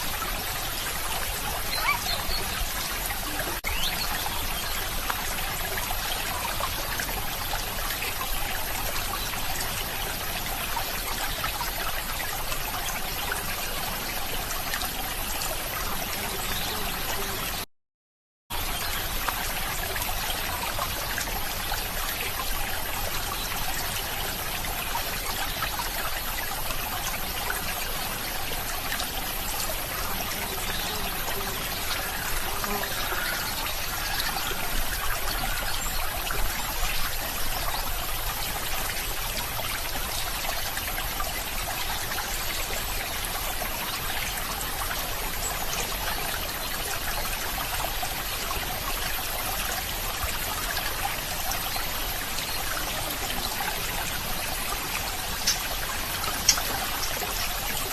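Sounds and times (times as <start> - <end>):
stream water trickling: 0.0 - 17.7, 18.5 - 57.9.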